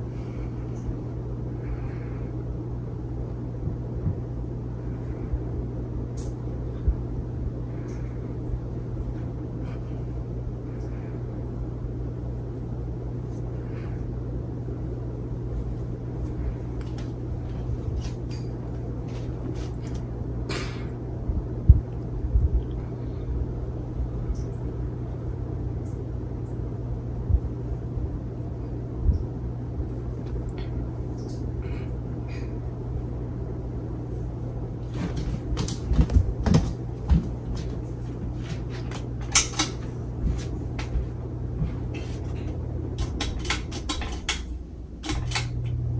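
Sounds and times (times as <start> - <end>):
ceiling fan motor hum: 0.0 - 45.9.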